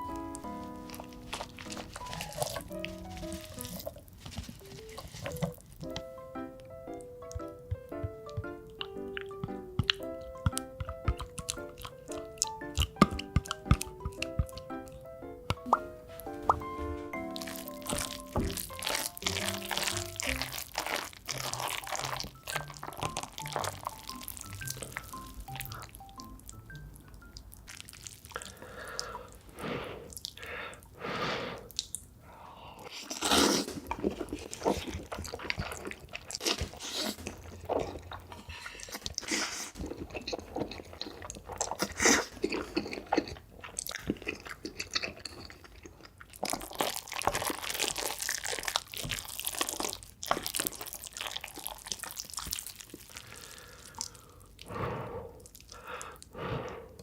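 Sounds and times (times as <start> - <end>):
person chewing crunchy food: 0.0 - 6.2, 6.9 - 30.9, 31.6 - 57.0.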